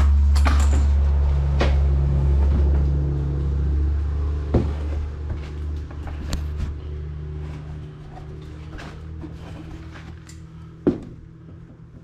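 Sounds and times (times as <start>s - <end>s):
steady low rumble: 0.0s - 11.5s.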